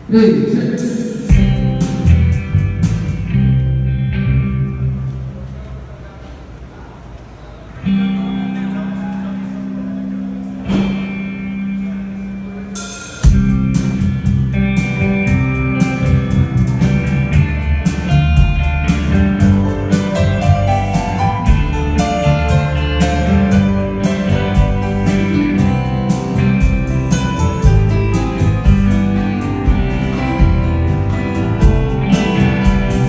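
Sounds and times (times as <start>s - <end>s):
live rock band playing: 0.0s - 5.4s, 7.8s - 33.0s.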